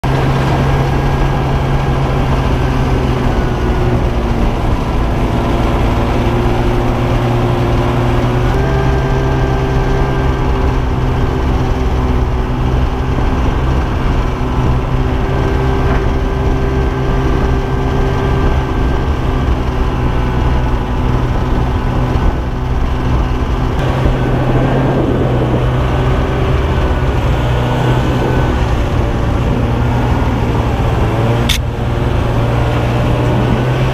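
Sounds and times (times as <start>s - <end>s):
snowmobile engine drone: 0.0s - 33.9s.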